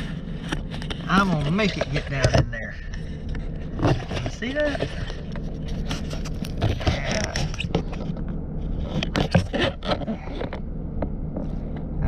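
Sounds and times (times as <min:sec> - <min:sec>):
scraping on hard surface: 0:00.0 - 0:10.6
low engine hum: 0:00.0 - 0:12.0.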